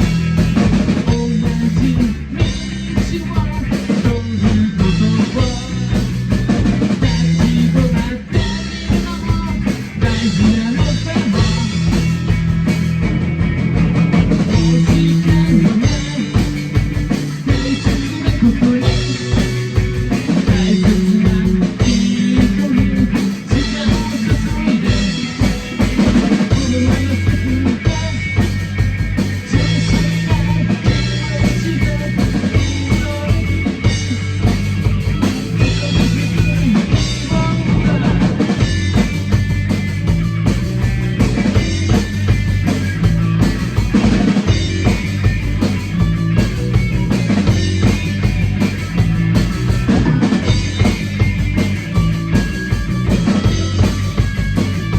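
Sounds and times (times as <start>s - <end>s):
drum kit driving beat: 0.0s - 54.9s
rock music: 0.0s - 54.9s.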